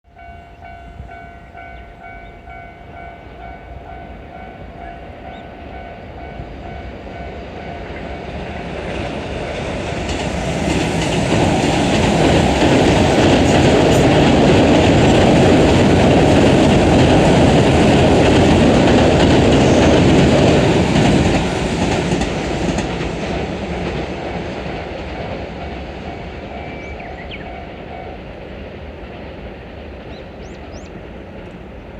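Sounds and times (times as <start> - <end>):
train rumble and rail noise: 0.1 - 31.9.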